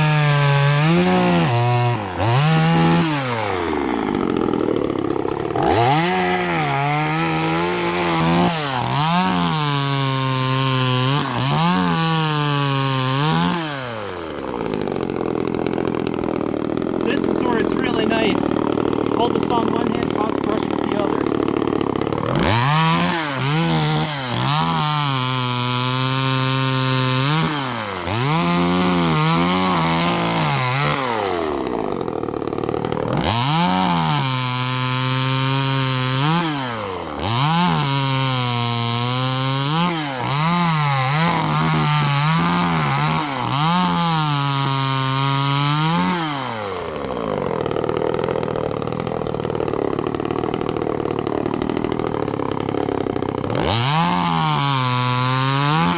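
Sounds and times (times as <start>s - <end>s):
chainsaw cutting brush: 0.0s - 55.9s.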